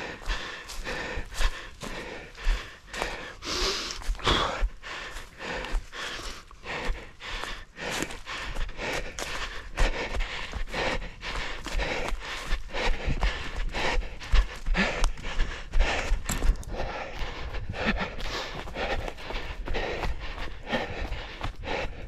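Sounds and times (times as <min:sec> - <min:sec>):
hard breathing: 0:00.0 - 0:22.0
running footsteps: 0:00.0 - 0:22.0.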